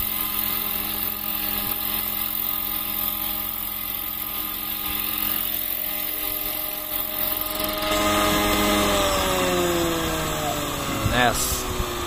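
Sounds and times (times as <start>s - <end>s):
electric motor whine: 0.0s - 12.0s
helicopter rotors: 0.0s - 12.0s.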